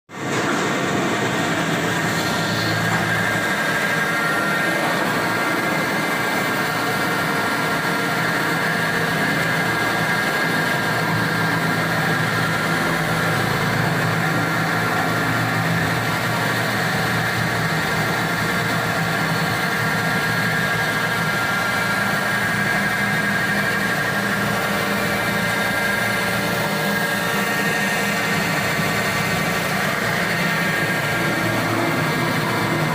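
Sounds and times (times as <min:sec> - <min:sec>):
cnc machining noise: 0:00.2 - 0:32.9
constant high whine: 0:00.2 - 0:32.9.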